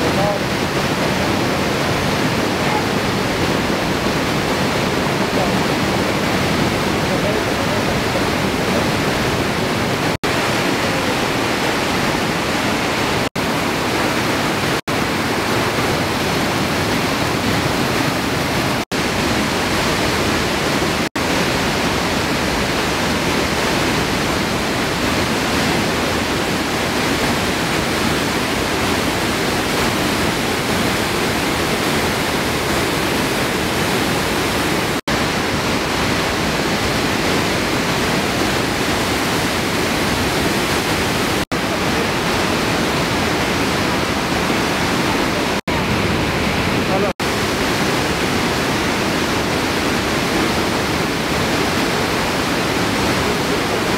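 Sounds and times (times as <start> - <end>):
waterfall rushing over rocks: 0.0 - 53.9.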